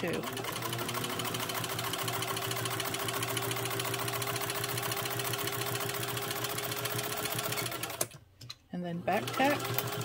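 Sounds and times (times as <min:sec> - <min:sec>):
sewing machine motor whine: 0:00.1 - 0:08.0, 0:09.1 - 0:10.0.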